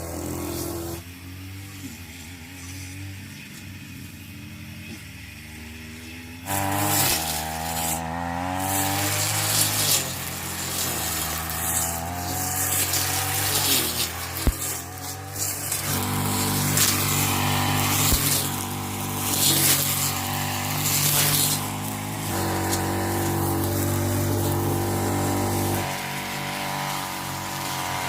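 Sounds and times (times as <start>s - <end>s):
motor running and revving: 0.0s - 28.0s.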